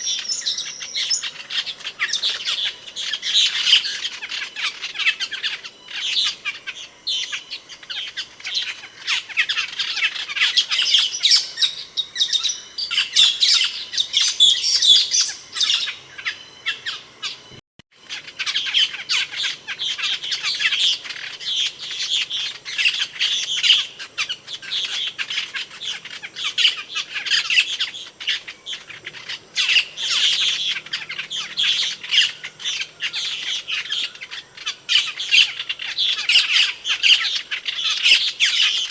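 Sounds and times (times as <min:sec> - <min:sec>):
starling chirps and squawks: 0:00.0 - 0:38.9.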